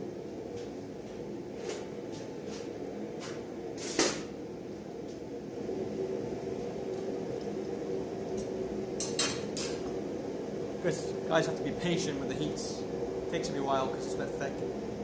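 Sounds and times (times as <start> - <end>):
forge humming: 0.0 - 15.0.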